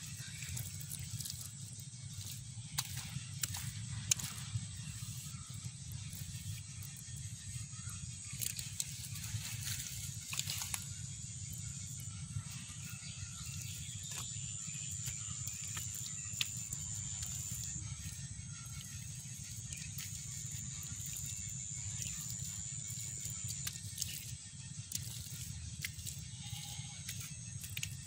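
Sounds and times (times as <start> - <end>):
high-pitched steady whine: 0.0 - 28.0.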